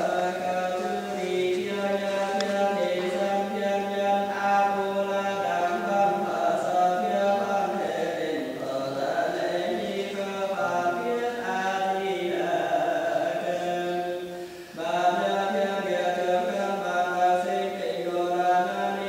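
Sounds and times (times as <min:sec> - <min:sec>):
voices chanting: 0:00.0 - 0:19.0.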